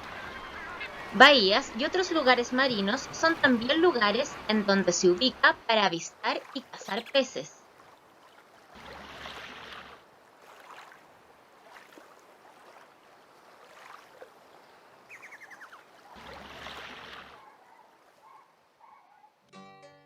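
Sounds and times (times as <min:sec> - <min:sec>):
water rushing and splashing: 0:00.0 - 0:18.8.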